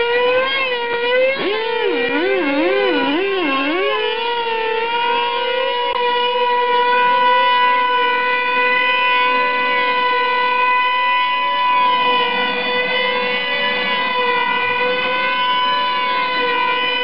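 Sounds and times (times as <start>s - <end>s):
model airplane engines whining: 0.0s - 17.0s.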